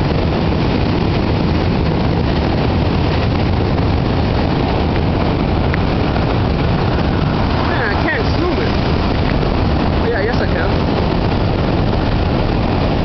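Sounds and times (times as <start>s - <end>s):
train wheels rumbling on bridge: 0.0s - 13.0s.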